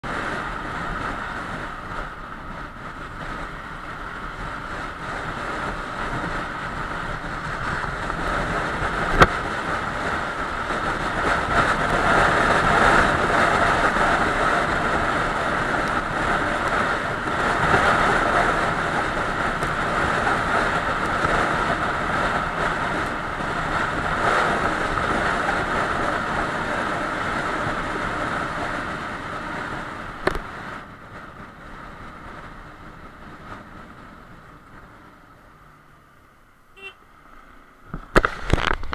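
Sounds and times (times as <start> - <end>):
vehicle running on road: 0.0 - 38.9.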